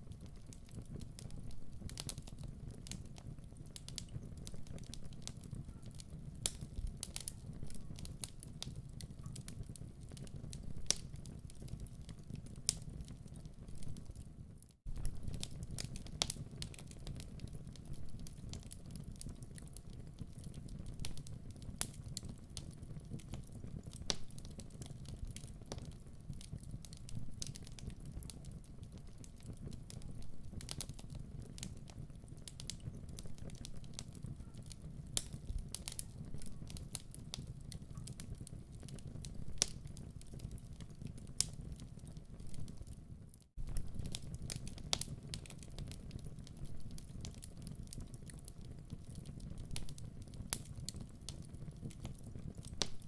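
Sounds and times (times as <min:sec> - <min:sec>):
low rumble of flames: 0:00.0 - 0:53.0
wood fire popping and crackling: 0:00.0 - 0:53.0.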